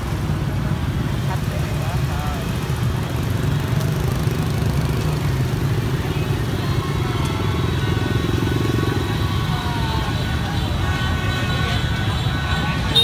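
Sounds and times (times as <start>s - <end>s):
motorbike and scooter engines: 0.0s - 13.0s.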